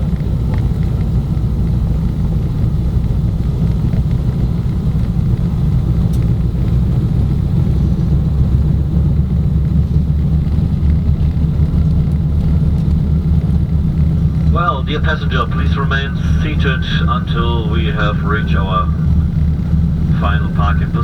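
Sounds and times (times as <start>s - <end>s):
aircraft engines rumbling: 0.0s - 21.0s.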